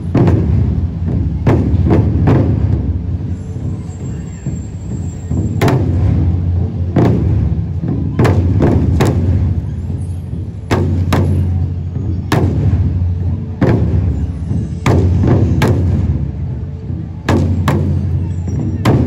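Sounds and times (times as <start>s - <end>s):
heavy unison drum strokes: 0.0s - 19.0s.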